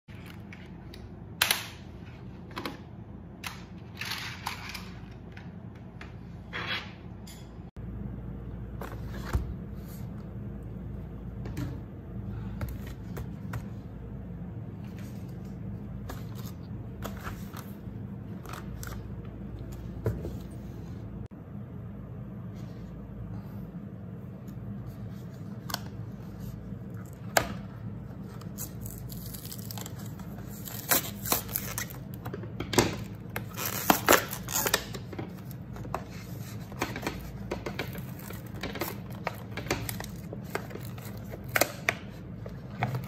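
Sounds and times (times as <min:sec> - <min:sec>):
steady low hum: 0:00.1 - 0:43.0.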